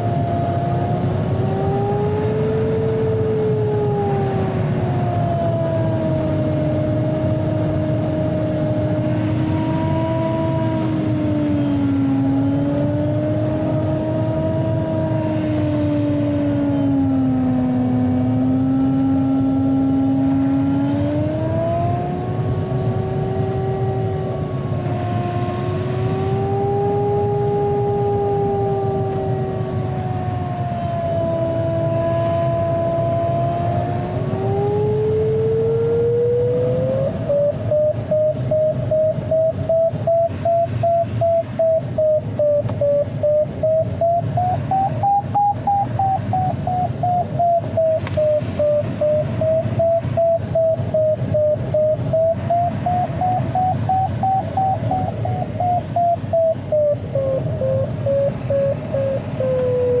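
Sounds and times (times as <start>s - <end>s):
variometer tone beeping: 0.0s - 60.0s.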